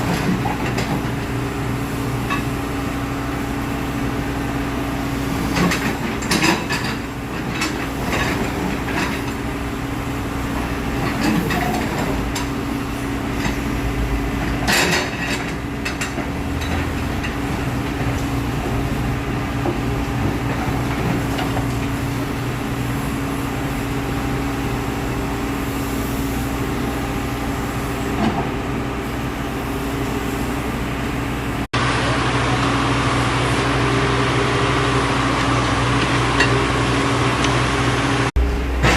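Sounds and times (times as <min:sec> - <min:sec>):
backhoe diesel engine running: 0:00.0 - 0:38.9.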